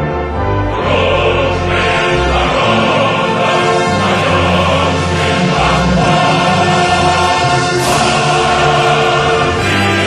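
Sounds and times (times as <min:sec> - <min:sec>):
choir singing held chords: 0:00.0 - 0:10.0.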